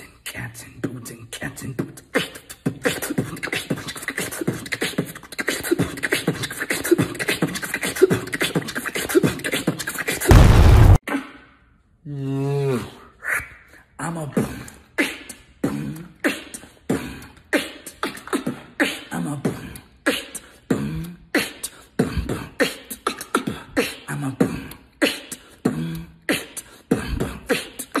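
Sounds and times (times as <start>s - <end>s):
person beatboxing: 0.0s - 10.3s, 13.2s - 28.0s.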